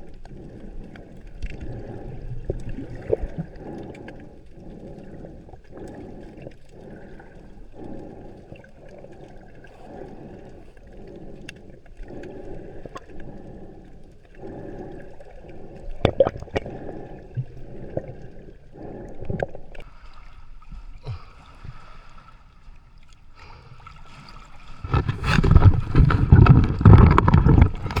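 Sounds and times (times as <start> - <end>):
seawater sloshing and gurgling: 0.0 - 28.0.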